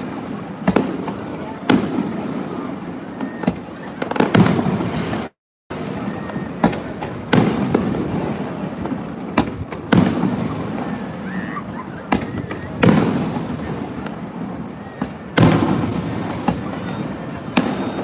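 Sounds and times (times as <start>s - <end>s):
fireworks bangs: 0.0s - 18.0s
rumble of firework bursts: 0.0s - 18.0s.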